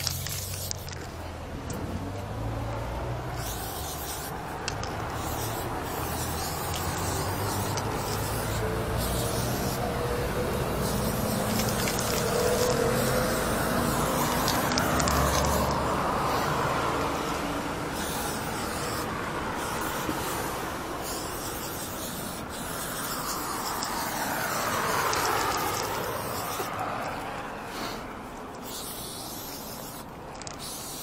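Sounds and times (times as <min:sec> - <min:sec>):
aerosol spray can hissing: 0:00.0 - 0:01.0, 0:03.4 - 0:16.6, 0:17.9 - 0:26.7, 0:28.6 - 0:31.0.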